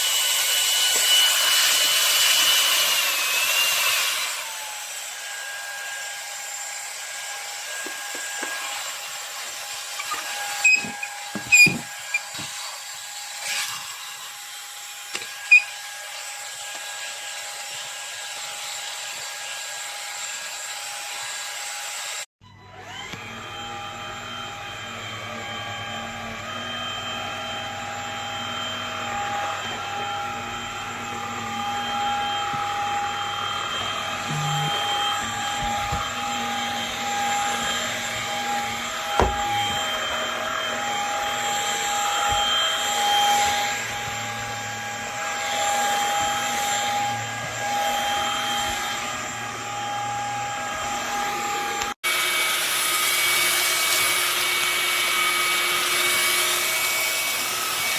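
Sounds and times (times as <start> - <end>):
vacuum motor whining: 0.0 - 57.9.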